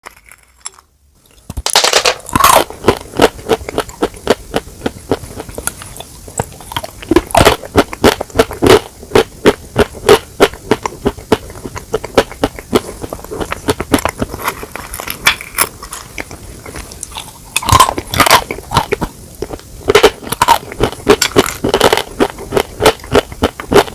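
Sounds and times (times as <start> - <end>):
crunching and chewing: 0.0 - 23.9.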